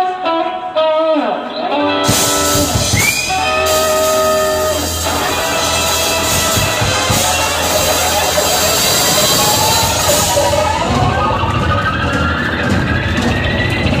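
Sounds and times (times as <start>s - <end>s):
electric guitar: 0.0s - 14.0s
bass guitar: 1.5s - 14.0s
drum kit: 2.0s - 14.0s.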